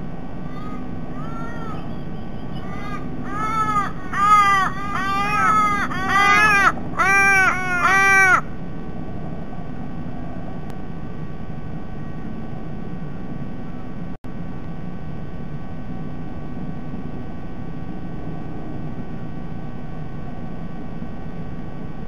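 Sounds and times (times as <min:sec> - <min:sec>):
faint hum: 0:00.0 - 0:22.0
rushing background noise: 0:00.0 - 0:22.0.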